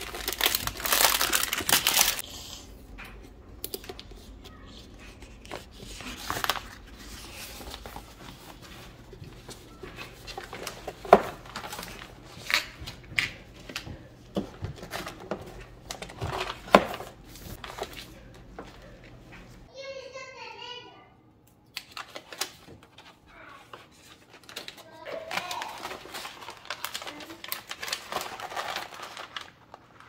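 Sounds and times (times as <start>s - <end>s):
contact paper rustling and crinkling: 0.0s - 2.3s, 3.2s - 19.7s, 21.8s - 30.0s.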